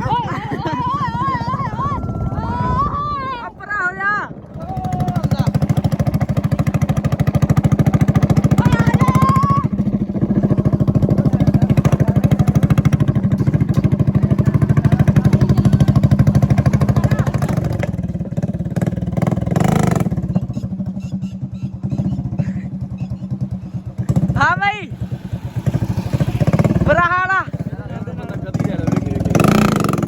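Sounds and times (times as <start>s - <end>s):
vehicle engine running: 4.3s - 30.0s.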